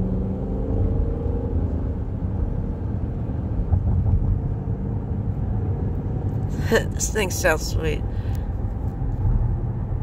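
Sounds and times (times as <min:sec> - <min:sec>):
car engine droning: 0:00.0 - 0:10.0
tyres rumbling on road: 0:00.0 - 0:10.0.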